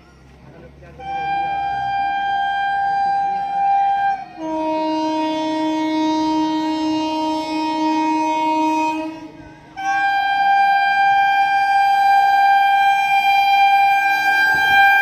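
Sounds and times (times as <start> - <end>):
electric train horn: 1.0 - 15.0.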